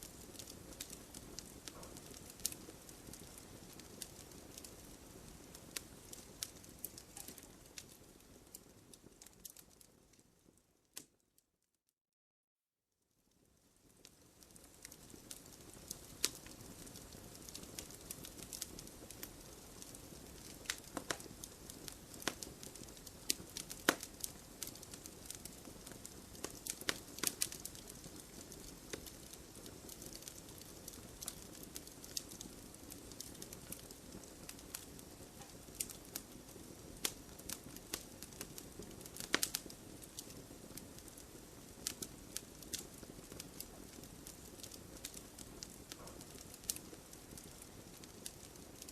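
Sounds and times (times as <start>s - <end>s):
loud fire pops: 0.0s - 8.2s, 14.5s - 48.9s
fire crackling and snapping: 0.0s - 11.2s, 13.3s - 48.9s
soft hiss of flames: 0.0s - 11.2s, 13.1s - 48.9s.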